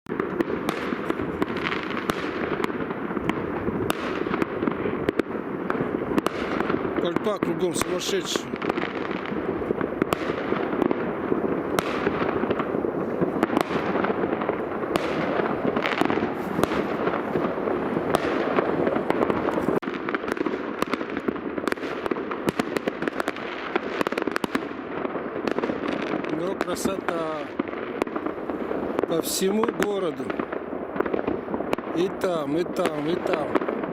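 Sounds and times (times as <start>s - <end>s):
fireworks popping and banging: 0.0s - 33.9s.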